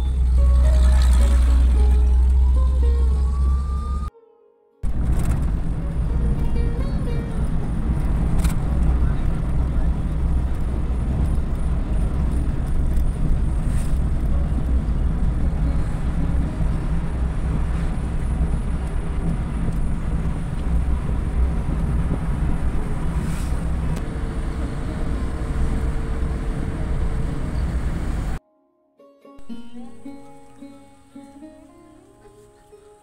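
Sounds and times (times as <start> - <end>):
vehicle engine and tyres rumble: 0.0 - 4.1, 4.8 - 28.4.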